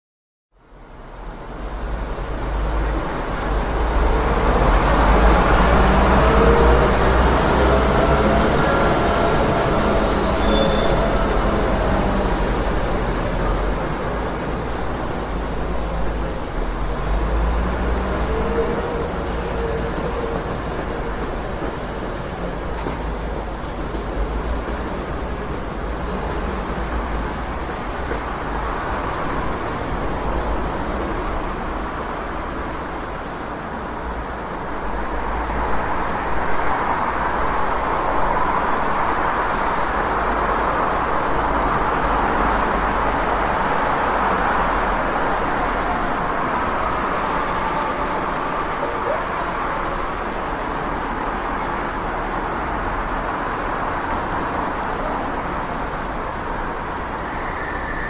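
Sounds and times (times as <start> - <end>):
cars going by: 1.2 - 58.0.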